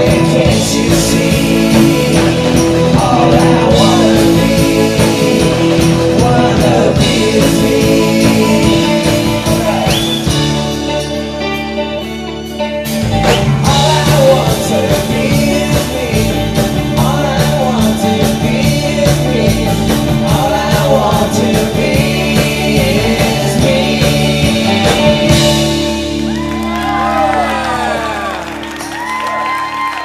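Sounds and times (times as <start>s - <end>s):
person singing: 0.0s - 11.1s, 13.2s - 28.5s
live rock band playing: 0.0s - 30.0s.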